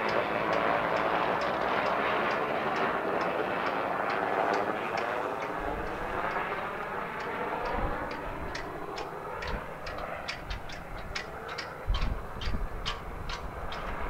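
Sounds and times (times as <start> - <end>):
faint regular ticking: 0.0 - 14.0
propeller plane engine drone: 0.0 - 14.0.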